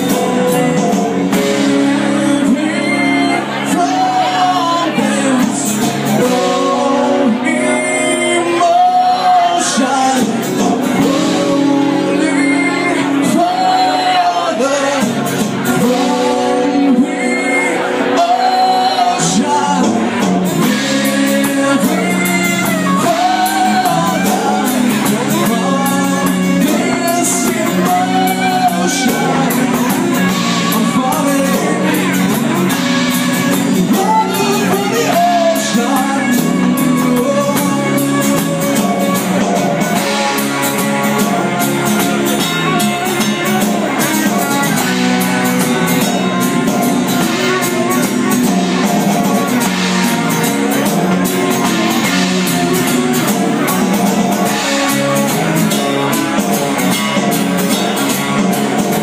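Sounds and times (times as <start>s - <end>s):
drum kit beat: 0.0s - 59.0s
electric guitar: 0.0s - 59.0s
man singing: 0.0s - 59.0s
strummed acoustic guitar: 0.0s - 59.0s.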